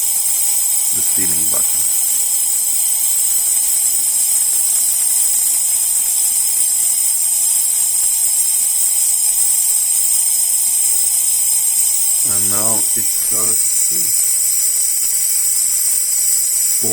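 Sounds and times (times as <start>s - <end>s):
steam hissing from espresso wand: 0.0s - 16.9s.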